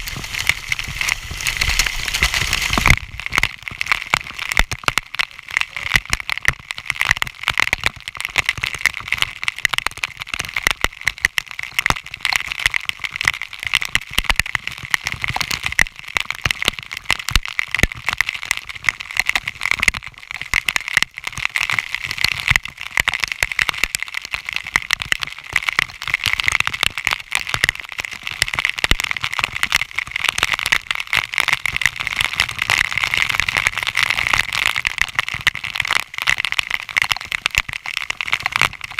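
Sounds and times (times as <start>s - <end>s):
water droplets pelting camera: 0.0s - 38.9s.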